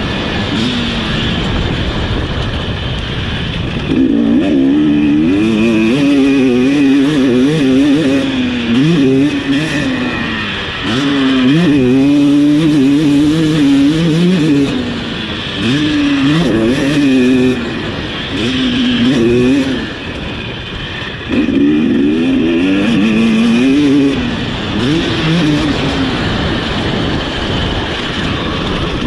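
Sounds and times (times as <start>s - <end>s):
motocross engine revving: 0.0s - 29.0s
rushing noise: 0.0s - 29.0s.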